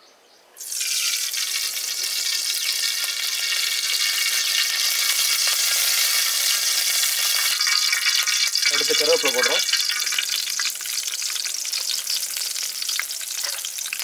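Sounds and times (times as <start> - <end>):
oil sizzling: 0.6 - 14.0.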